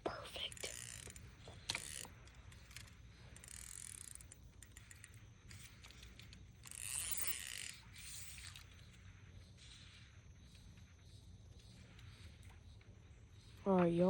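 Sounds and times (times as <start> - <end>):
fishing reel whirring and clicking: 0.3 - 13.6.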